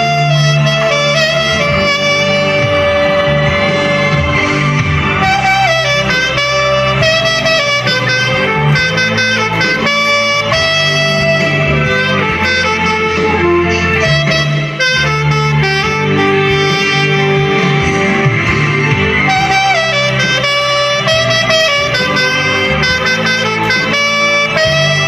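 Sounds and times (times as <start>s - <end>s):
backing track with guitar and bass: 0.0s - 25.0s
saxophone slow melody: 0.0s - 25.0s.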